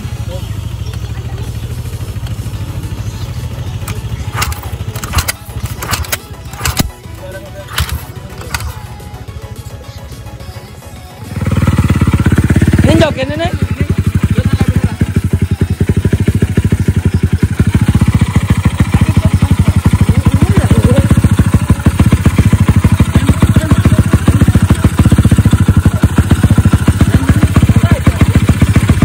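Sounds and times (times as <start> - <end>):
small motorcycle engine running: 0.0 - 29.0.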